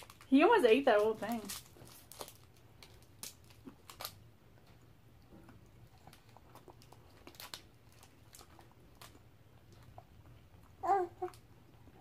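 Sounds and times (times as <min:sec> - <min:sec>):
small clicks and crinkles: 0:00.0 - 0:11.5
faint chewing and crunching: 0:00.0 - 0:12.0.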